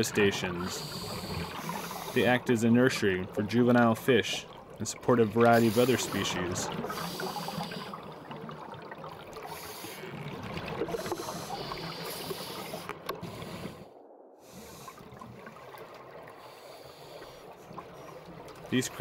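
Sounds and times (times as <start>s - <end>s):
underwater water noise: 0.0s - 19.0s.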